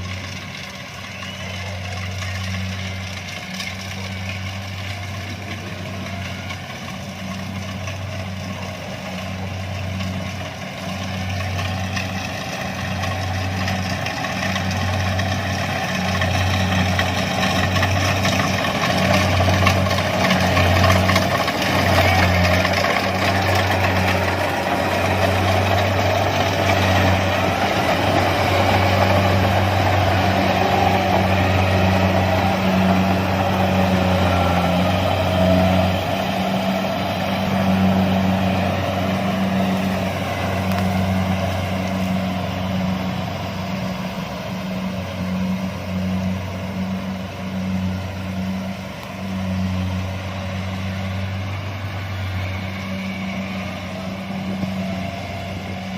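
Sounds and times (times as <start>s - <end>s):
diesel engine hum: 0.0s - 55.9s
harvester mechanical whir: 0.0s - 55.9s.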